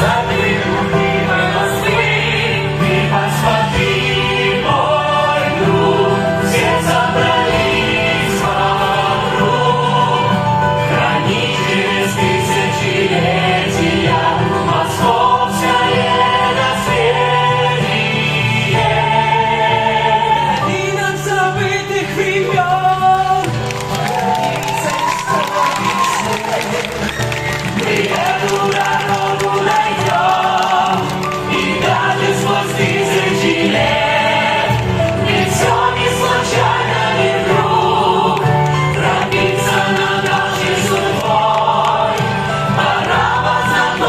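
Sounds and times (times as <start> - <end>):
cast singing together: 0.0 - 23.6, 24.8 - 44.0
musical accompaniment: 0.0 - 44.0.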